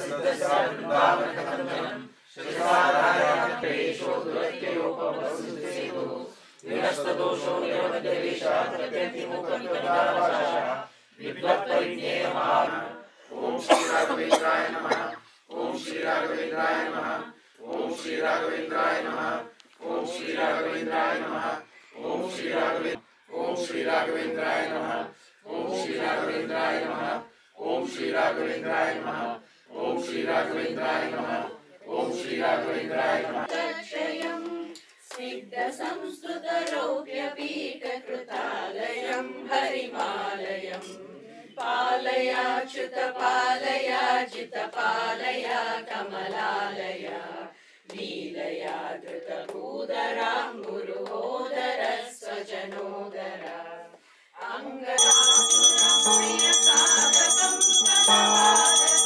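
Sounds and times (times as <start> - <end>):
group chanting a hymn in unison: 0.0 - 59.0.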